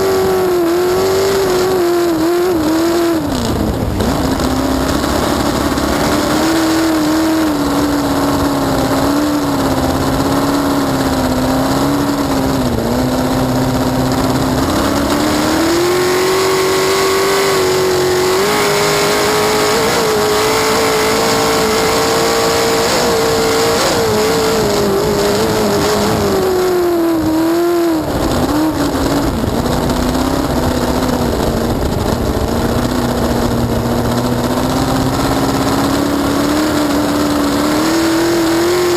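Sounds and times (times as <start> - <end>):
boat engine running hard: 0.0 - 38.9.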